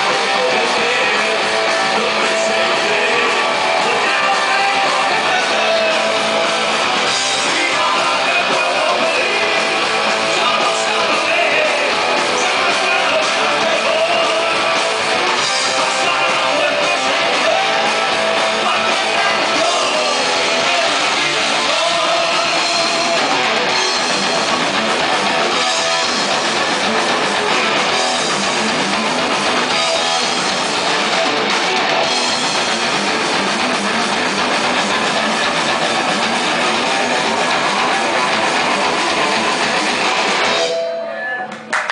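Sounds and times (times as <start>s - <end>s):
drum kit: 0.0s - 41.9s
electric guitars: 0.0s - 41.9s.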